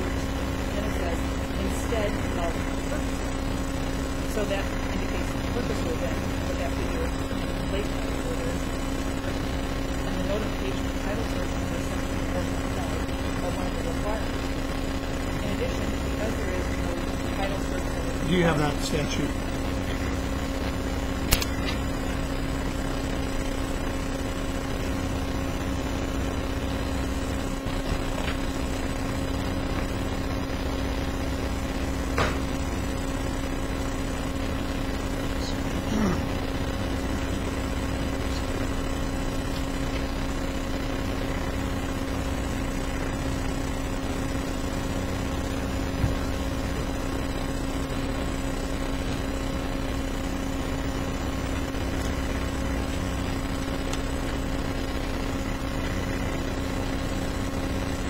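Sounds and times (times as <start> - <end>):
steady room hum: 0.0 - 58.0.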